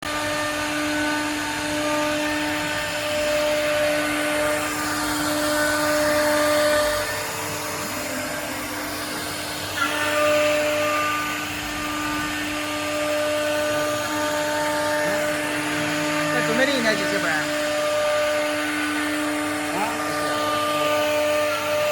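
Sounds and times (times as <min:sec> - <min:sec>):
router spindle whine: 0:00.0 - 0:21.9.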